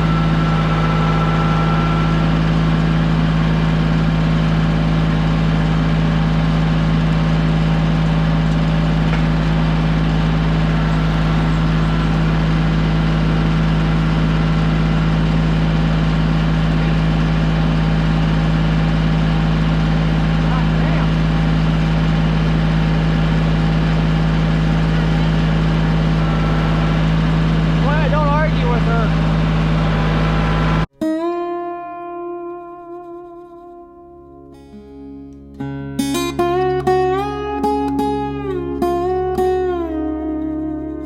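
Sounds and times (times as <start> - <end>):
vehicle engine droning: 0.0 - 41.0.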